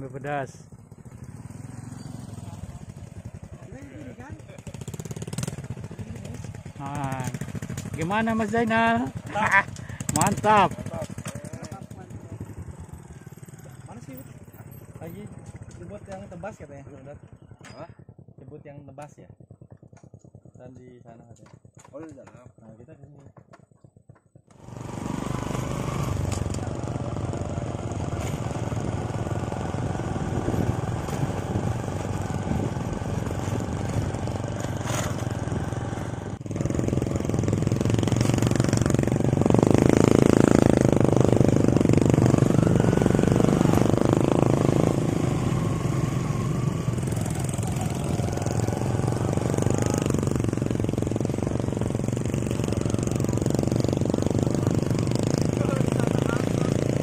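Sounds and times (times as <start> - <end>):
small motorcycle engines: 0.0 - 57.0.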